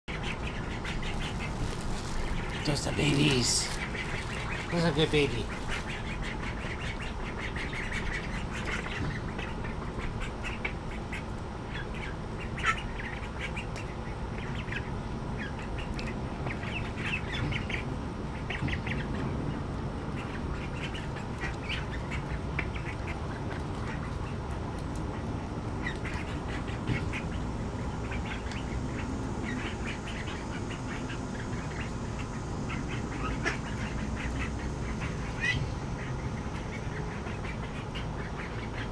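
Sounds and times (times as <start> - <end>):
young ducks calling: 0.1 - 19.2, 20.1 - 24.5, 25.1 - 38.9.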